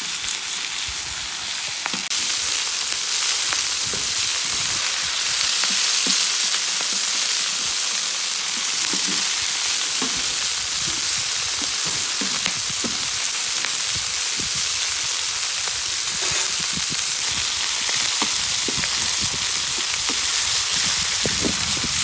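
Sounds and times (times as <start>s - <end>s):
meat and peppers sizzling in pan: 0.0s - 22.0s.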